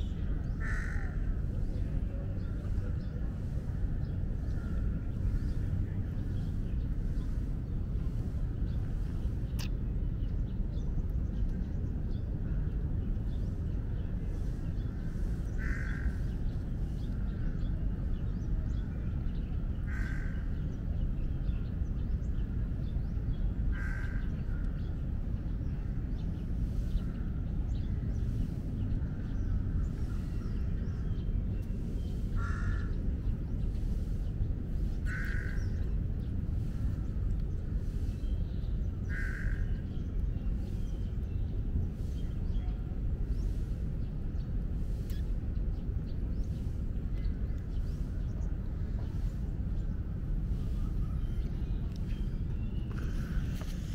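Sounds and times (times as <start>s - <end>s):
low background rumble: 0.0s - 53.9s.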